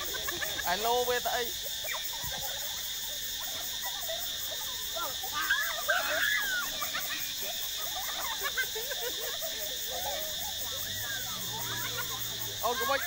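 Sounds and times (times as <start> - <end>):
children shouting and chattering: 0.0 - 13.0
insects buzzing: 0.0 - 13.0.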